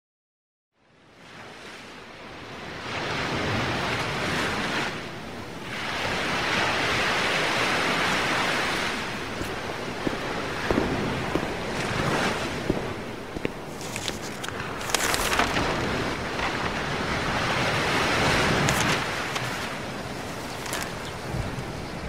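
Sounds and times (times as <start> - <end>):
ocean waves washing in: 1.0 - 22.0.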